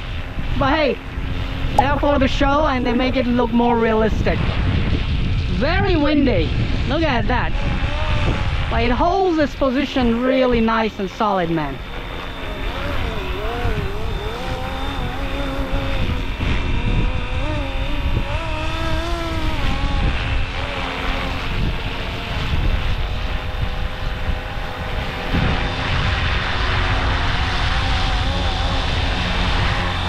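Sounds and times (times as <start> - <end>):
rc helicopter motor whining: 0.0 - 30.0
wind buffeting microphone: 0.0 - 30.0.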